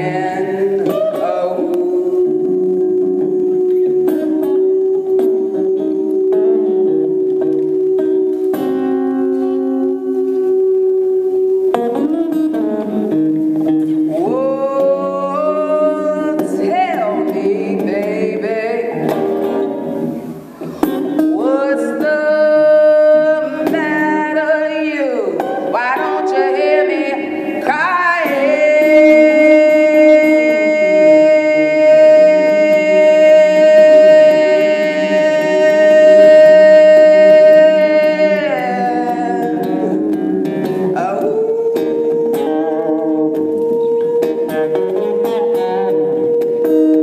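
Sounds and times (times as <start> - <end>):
electric guitar: 0.0 - 47.0.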